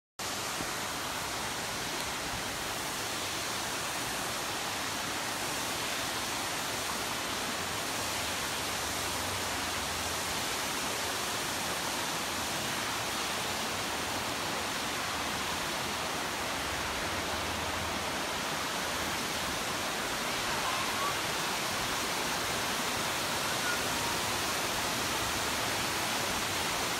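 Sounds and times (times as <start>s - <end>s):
waterfall rushing: 0.2s - 26.9s.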